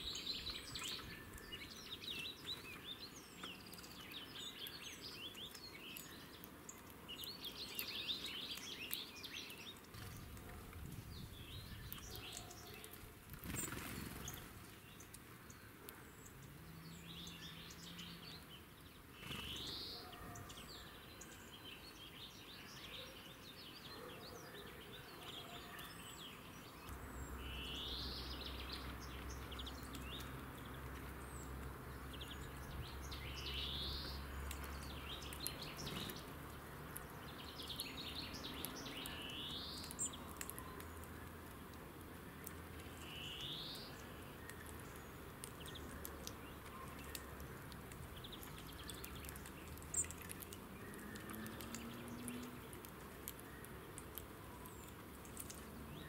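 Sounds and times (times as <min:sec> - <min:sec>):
outdoor background noise: 0:00.0 - 0:56.0
songbirds chirping: 0:00.0 - 0:56.0.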